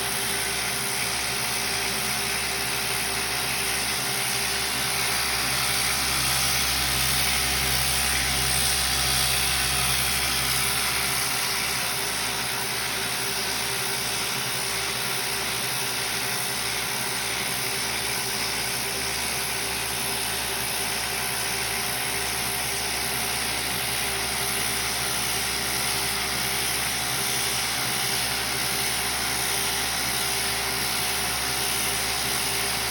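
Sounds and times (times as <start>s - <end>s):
mechanical hum: 0.0s - 32.9s
sander hissing on metal: 0.0s - 32.9s.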